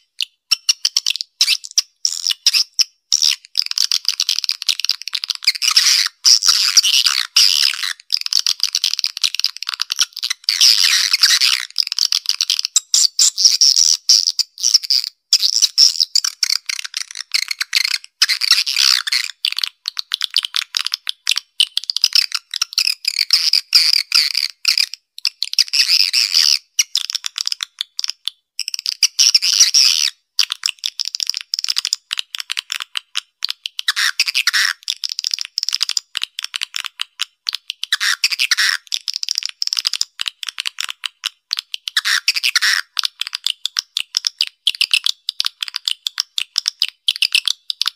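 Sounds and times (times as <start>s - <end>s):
recorded swiftlet chattering: 0.0s - 47.4s.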